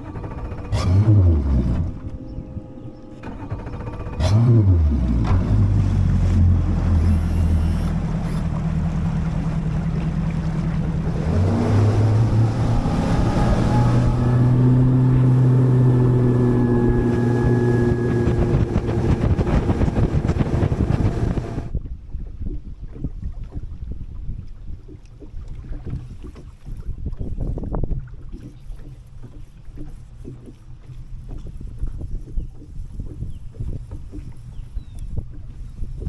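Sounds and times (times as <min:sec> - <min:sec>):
outboard motor running: 0:00.0 - 0:36.0
wind buffeting microphone: 0:05.6 - 0:36.0.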